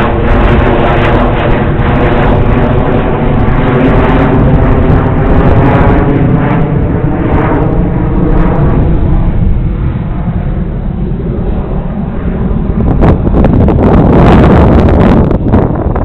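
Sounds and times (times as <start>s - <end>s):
electric motors and propellers humming: 0.0s - 16.0s
wind rumble on microphone: 0.0s - 16.0s.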